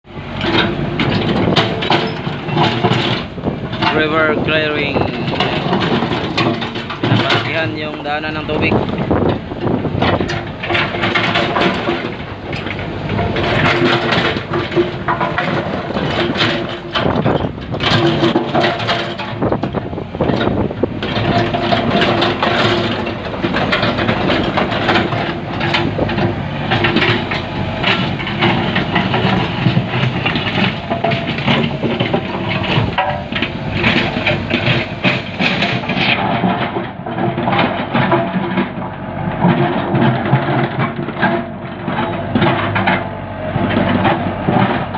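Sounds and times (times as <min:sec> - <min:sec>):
diesel engine running: 0:00.0 - 0:44.9
digging knocks and clanks: 0:00.1 - 0:44.9.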